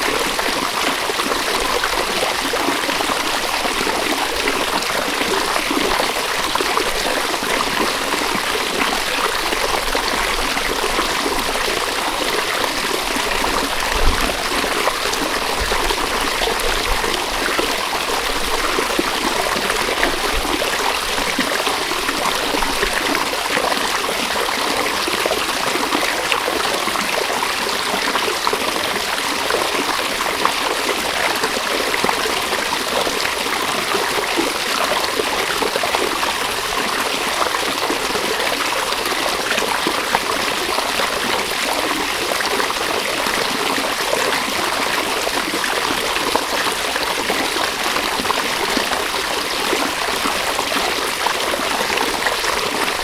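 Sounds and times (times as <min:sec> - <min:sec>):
river babbling over stones: 0:00.0 - 0:53.0.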